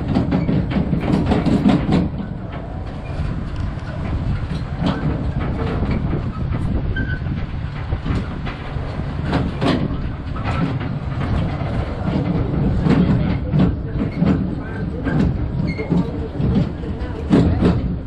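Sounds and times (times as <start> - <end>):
rattles and knocks from cars: 0.0 - 18.0
tram cars rumbling: 0.0 - 18.0.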